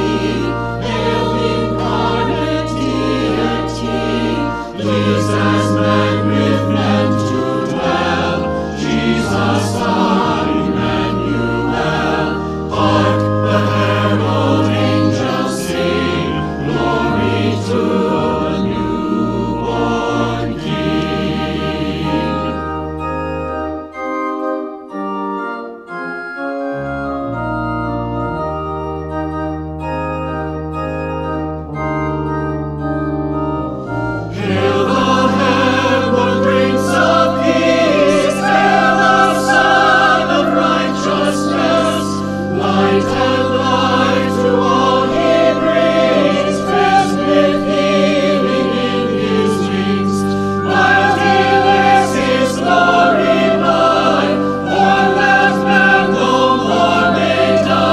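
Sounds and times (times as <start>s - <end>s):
choir singing: 0.0s - 24.0s, 33.6s - 57.9s
organ chords: 0.0s - 57.9s.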